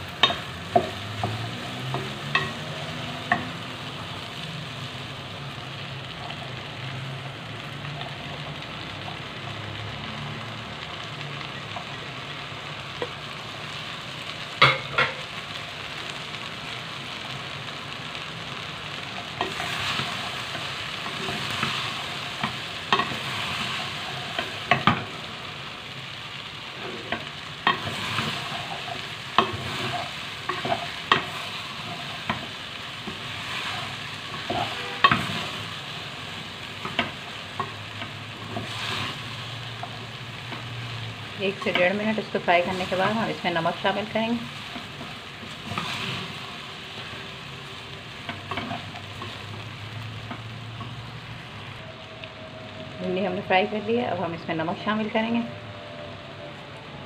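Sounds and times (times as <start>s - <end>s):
okra sizzling in oil: 0.0s - 57.0s.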